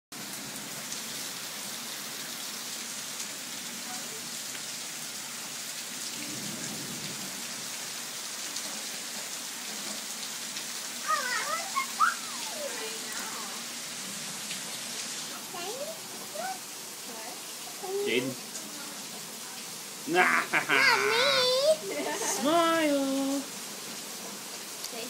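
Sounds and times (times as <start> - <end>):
rain falling: 0.1 - 25.0.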